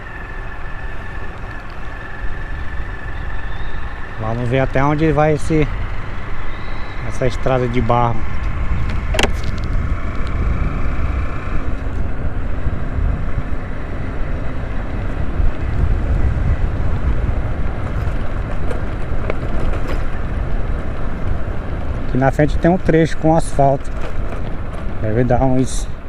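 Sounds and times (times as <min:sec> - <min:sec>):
road noise: 0:00.0 - 0:26.0
wind rushing on microphone: 0:00.0 - 0:26.0.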